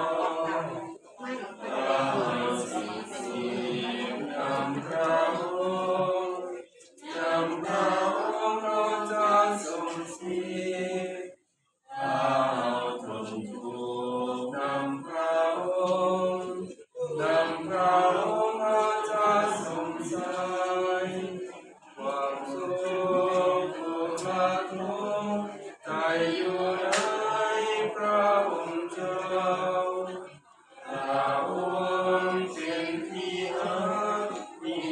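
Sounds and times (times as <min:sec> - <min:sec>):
group singing a hymn: 0:00.0 - 0:34.9.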